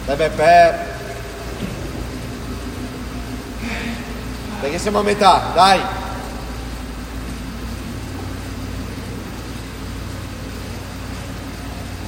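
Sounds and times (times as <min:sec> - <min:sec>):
even hiss: 0:00.0 - 0:12.0
low mechanical hum: 0:00.0 - 0:12.0.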